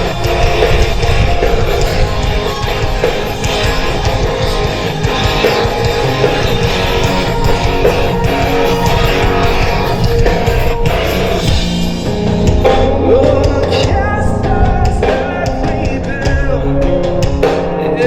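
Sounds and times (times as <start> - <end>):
drums: 0.0 - 18.0
rock band playing: 0.0 - 18.0
strummed electric guitar: 0.0 - 18.0.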